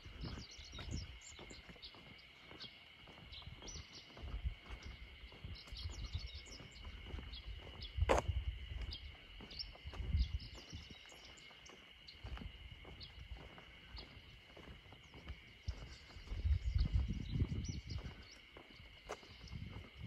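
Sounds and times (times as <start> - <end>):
birds chirping: 0.0 - 20.0
high insect drone: 0.0 - 20.0.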